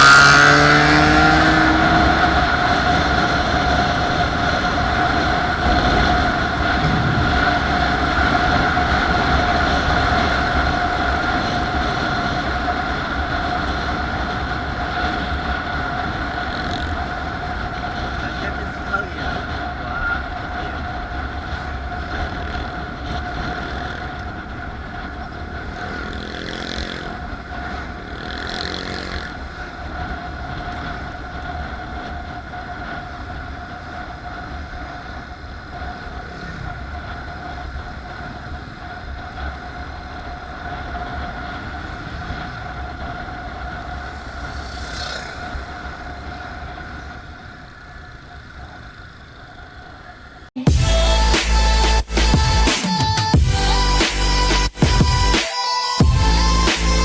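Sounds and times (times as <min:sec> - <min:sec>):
vehicle engine rumble: 0:00.0 - 0:55.4, 0:56.0 - 0:57.0
constant whine: 0:00.0 - 0:57.0.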